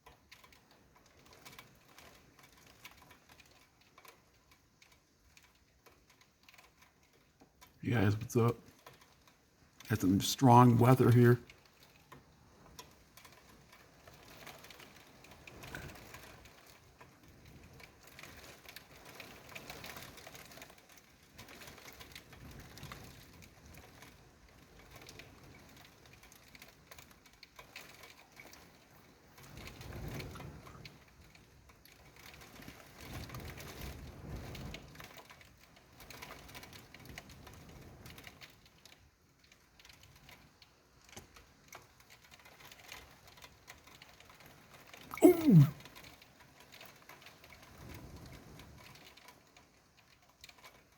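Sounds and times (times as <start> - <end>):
rain pattering: 0.0 - 50.9.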